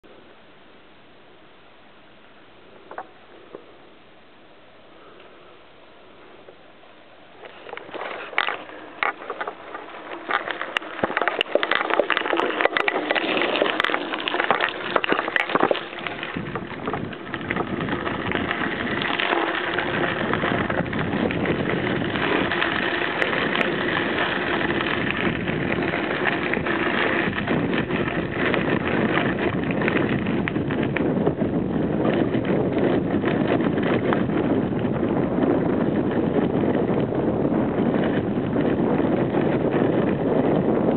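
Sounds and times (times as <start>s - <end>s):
bicycle tyres on gravel: 2.1s - 40.9s
wind on microphone: 7.3s - 40.9s.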